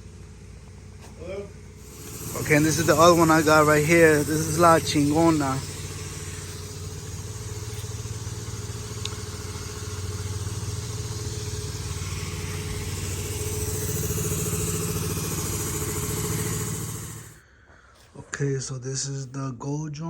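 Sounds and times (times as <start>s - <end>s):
engine idling: 0.0s - 17.4s.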